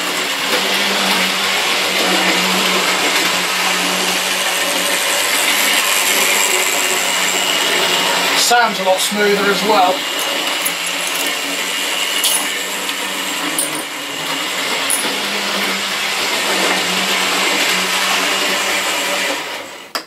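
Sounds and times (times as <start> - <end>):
electric motor whirr: 0.0 - 19.8.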